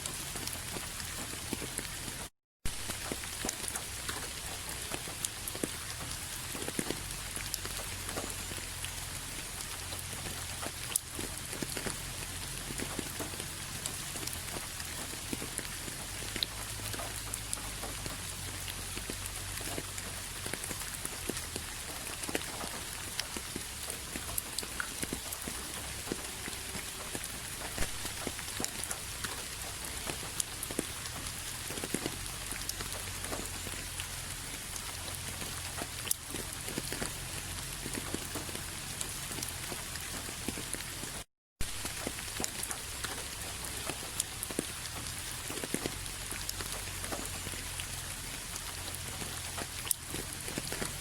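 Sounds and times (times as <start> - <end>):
rain drops tapping: 0.0 - 51.0.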